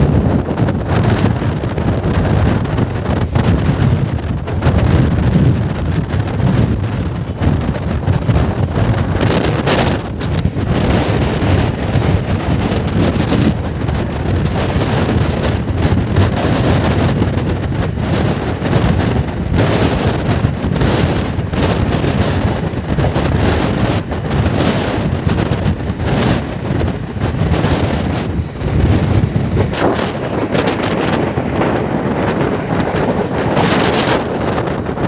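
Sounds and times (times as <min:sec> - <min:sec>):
train rumbling: 0:00.0 - 0:35.0
wind buffeting microphone: 0:00.0 - 0:35.0.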